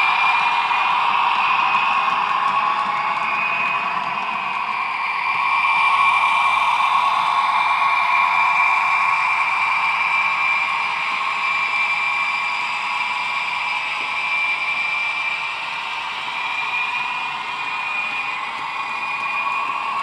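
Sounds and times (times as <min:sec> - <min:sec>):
model train whirring hum: 0:00.0 - 0:20.0.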